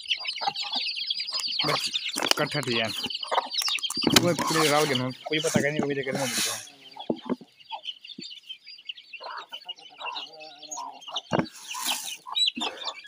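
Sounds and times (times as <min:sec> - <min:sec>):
chicks peeping: 0:00.0 - 0:13.0
hen clucking: 0:00.0 - 0:13.0.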